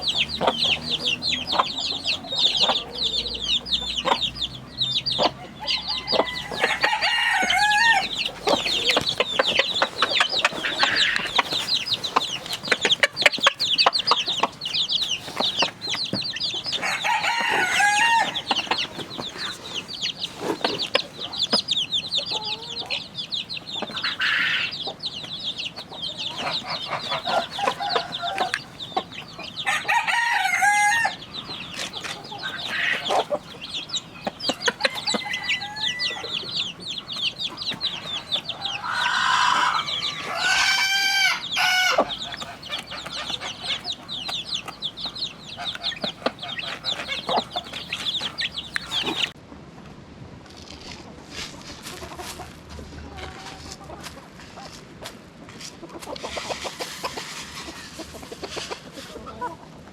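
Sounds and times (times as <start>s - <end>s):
chicken drawn-out calls: 0.0s - 49.4s, 51.3s - 54.8s, 55.6s - 59.9s
chickens clucking: 0.0s - 49.4s, 50.6s - 59.9s.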